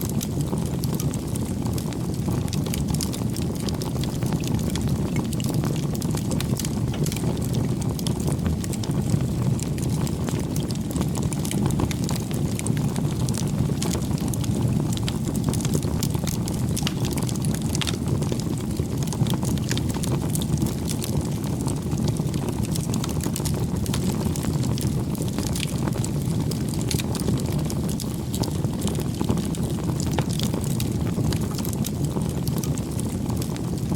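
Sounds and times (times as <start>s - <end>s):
burning wood crackling and popping: 0.0s - 33.9s
rush of flames: 0.0s - 33.9s.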